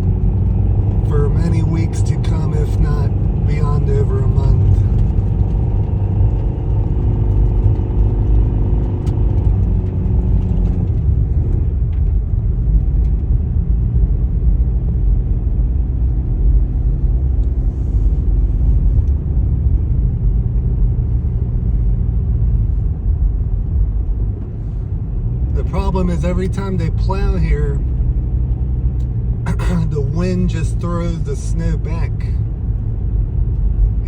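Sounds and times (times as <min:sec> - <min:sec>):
vehicle engine drone: 0:00.0 - 0:34.0.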